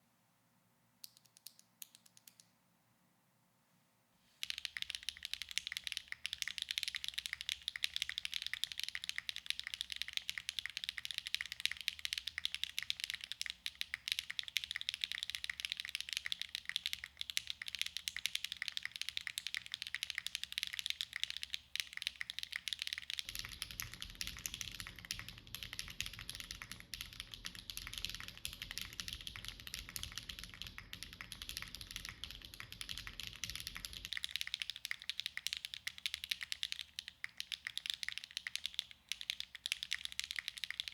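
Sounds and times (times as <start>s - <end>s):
fast typing on mechanical keyboard: 4.4s - 40.9s.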